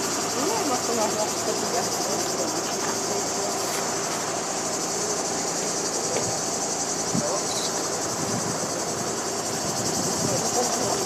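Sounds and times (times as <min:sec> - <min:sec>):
insects shrilling: 0:00.0 - 0:11.0.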